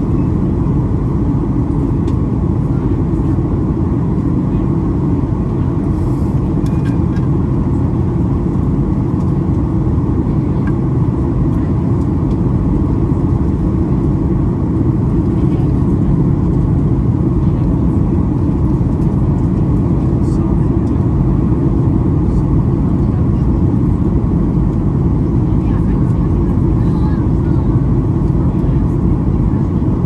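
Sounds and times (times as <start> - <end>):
airliner cabin noise: 0.0 - 30.0.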